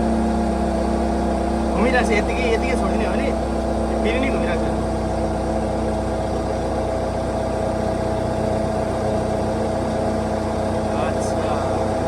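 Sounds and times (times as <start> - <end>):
loader engine humming: 0.0 - 12.0.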